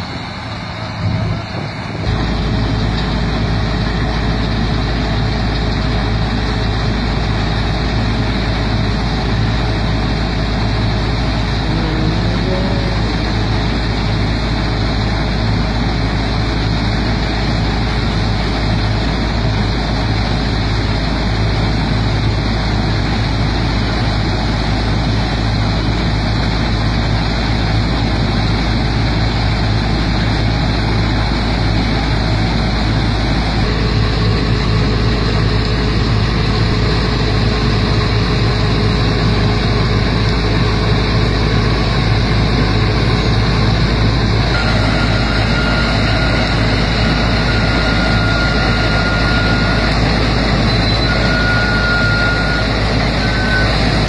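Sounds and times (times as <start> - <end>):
combine harvester drone: 0.0 - 54.0
thin steady whine: 0.0 - 54.0.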